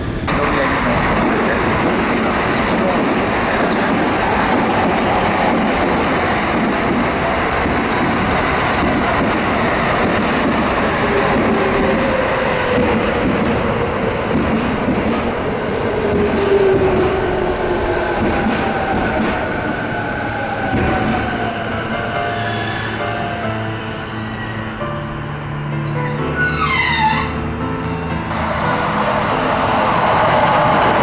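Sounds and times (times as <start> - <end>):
train wheels rumbling on rails: 0.0 - 27.1, 28.4 - 31.0.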